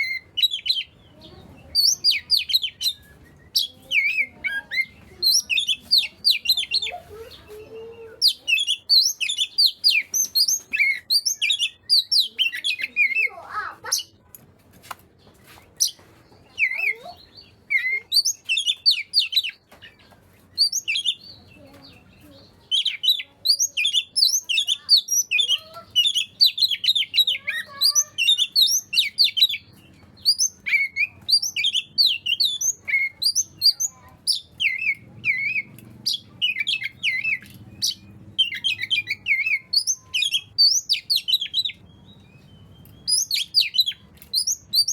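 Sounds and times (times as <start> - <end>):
songbird chirping and whistling: 0.0 - 14.2, 15.2 - 44.9.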